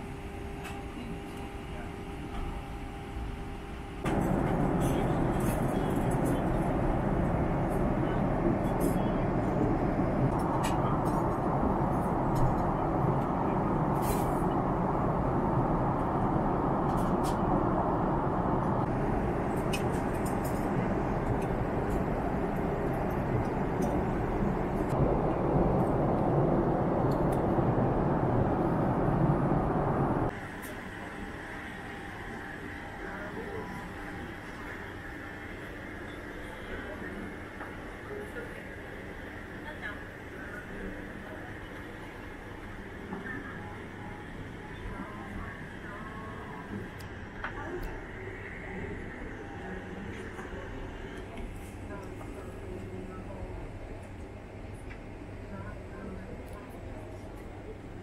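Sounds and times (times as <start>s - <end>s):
airliner cabin roar: 0.0s - 56.4s.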